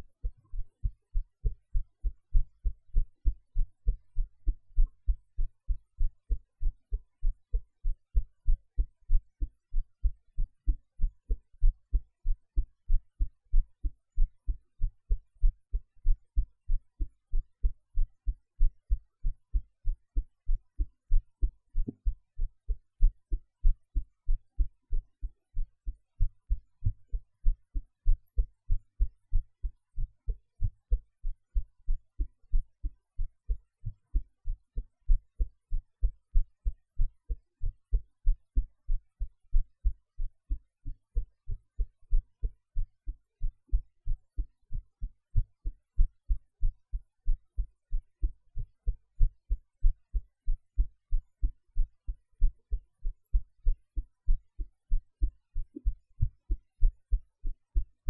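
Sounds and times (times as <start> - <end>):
heartbeat thumps: 0.0 - 29.4, 30.0 - 58.0.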